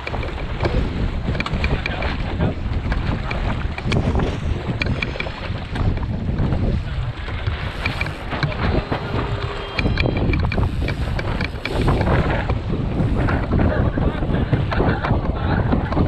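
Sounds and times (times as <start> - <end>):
water rushing along hull: 0.0 - 16.0
wind buffeting microphone: 0.0 - 16.0.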